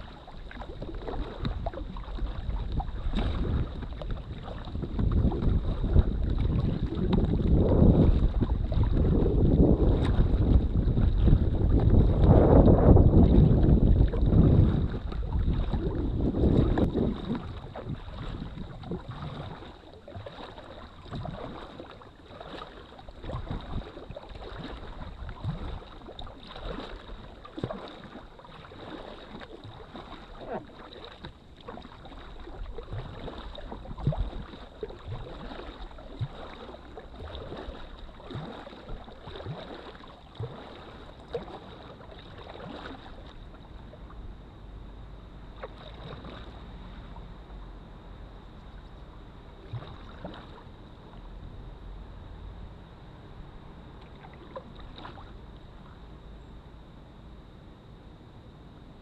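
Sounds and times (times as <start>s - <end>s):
wind rumbling on microphone: 0.0s - 57.0s
water splashing around kayak: 0.0s - 57.2s.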